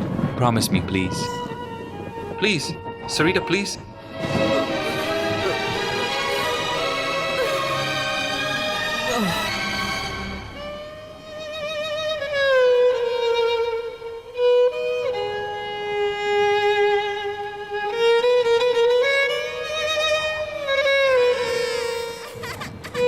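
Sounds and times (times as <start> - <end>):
solo violin slow melody: 0.0 - 23.0.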